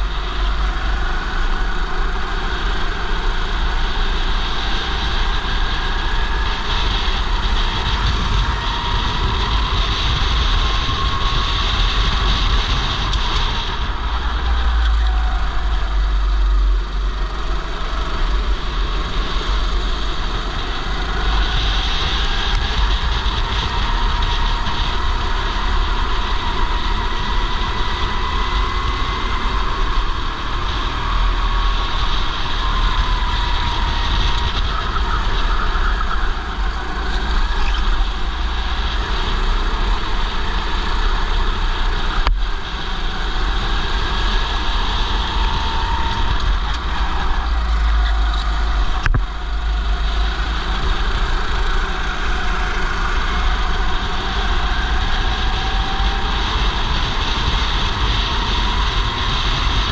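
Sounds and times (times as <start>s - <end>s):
go-kart engine revving: 0.0s - 59.9s
other karts running: 0.0s - 59.9s
wind rumble on microphone: 0.0s - 59.9s.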